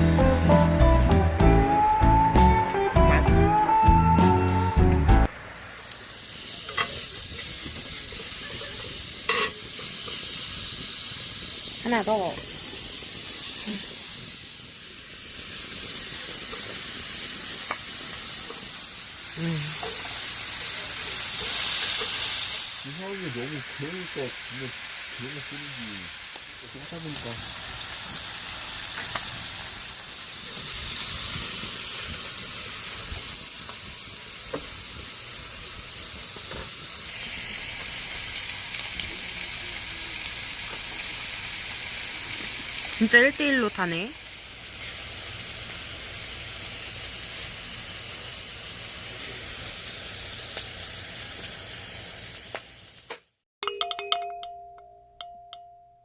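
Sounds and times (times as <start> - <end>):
food sizzling in a pan: 0.0 - 53.4.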